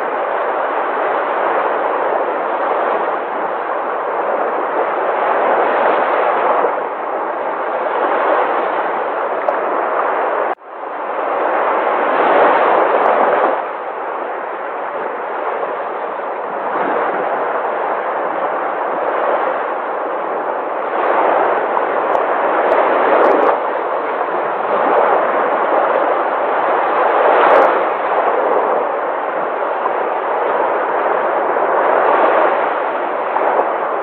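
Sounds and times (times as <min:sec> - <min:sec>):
sea waves surging: 0:00.0 - 0:34.0.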